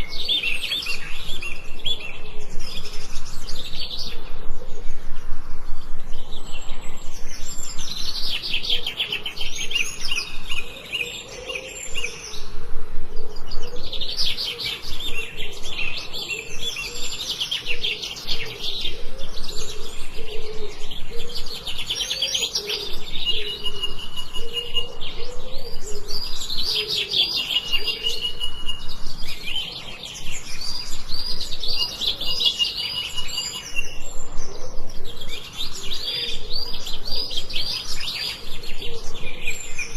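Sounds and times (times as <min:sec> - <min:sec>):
forest birds chirping and singing: 0:00.0 - 0:39.9.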